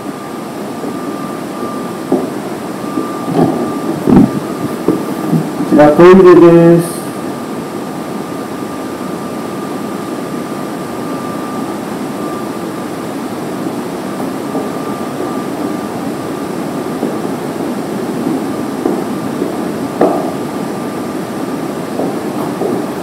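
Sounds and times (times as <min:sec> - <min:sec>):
faint high whine: 0:00.0 - 0:23.0
ventilation hum: 0:00.0 - 0:23.0.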